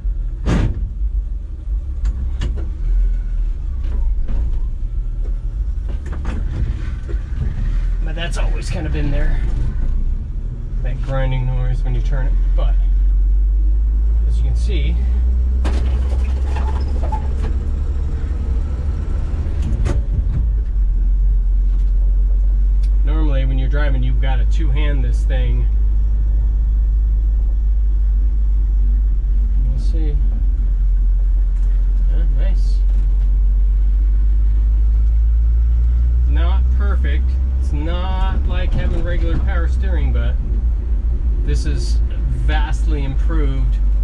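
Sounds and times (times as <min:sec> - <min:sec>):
engine rumble inside car: 0:00.0 - 0:44.0
road noise: 0:00.0 - 0:44.0.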